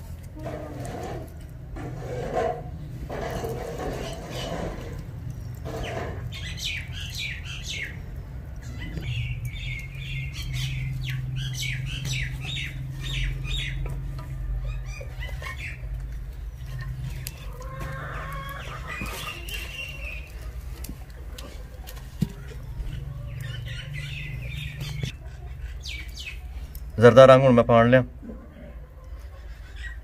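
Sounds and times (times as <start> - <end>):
small birds chirping: 3.4 - 27.2, 28.6 - 30.0.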